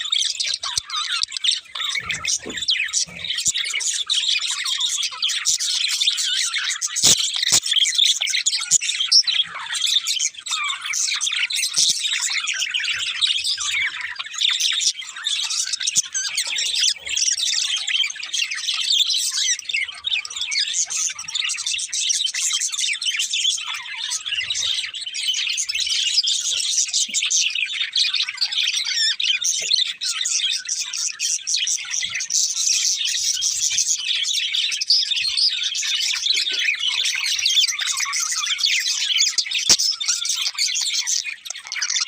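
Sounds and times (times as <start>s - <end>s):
budgerigars chirping: 0.0s - 42.0s.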